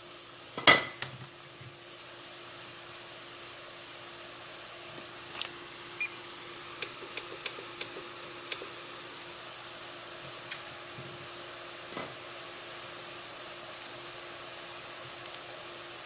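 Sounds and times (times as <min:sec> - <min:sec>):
deep-frying sizzle with pops: 0:00.0 - 0:16.0.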